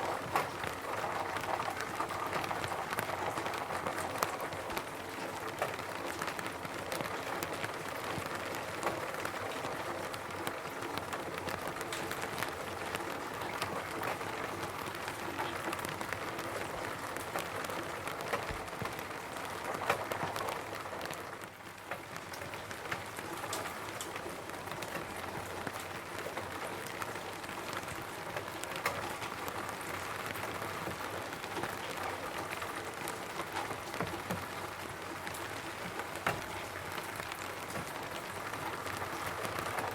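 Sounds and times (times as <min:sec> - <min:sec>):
rain pattering on a roof: 0:00.0 - 0:39.9.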